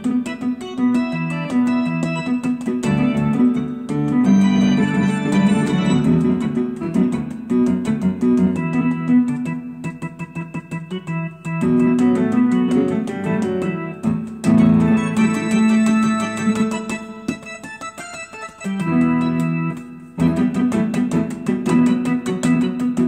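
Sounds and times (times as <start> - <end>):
electronic keyboard playing: 0.0 - 23.0.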